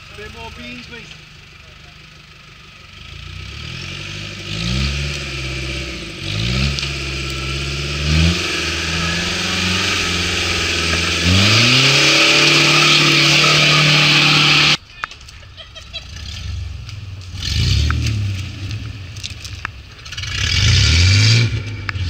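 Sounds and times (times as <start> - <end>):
truck engine revving hard: 3.0 - 14.8, 15.9 - 22.0.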